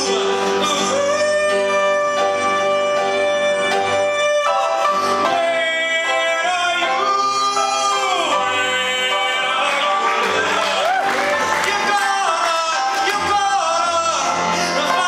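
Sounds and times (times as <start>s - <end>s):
grand piano accompaniment: 0.0s - 15.0s
man singing into a microphone: 0.0s - 15.0s.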